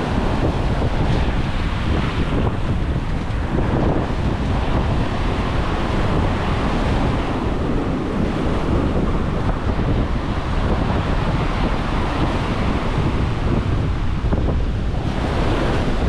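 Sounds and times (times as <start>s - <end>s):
ocean surf breaking on sand: 0.0s - 16.0s
wind buffeting microphone: 0.0s - 16.0s.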